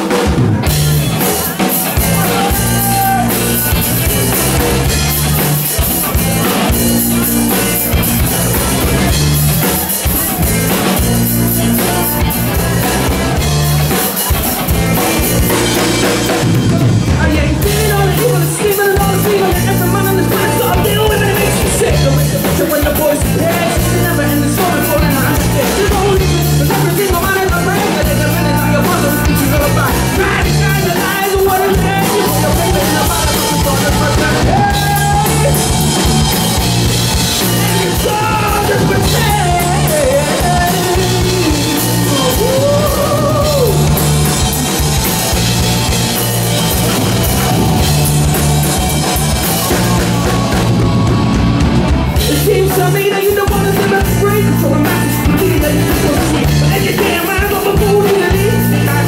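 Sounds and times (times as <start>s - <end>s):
bass guitar line: 0.0s - 59.0s
drum kit: 0.0s - 59.0s
electric guitar: 0.0s - 59.0s.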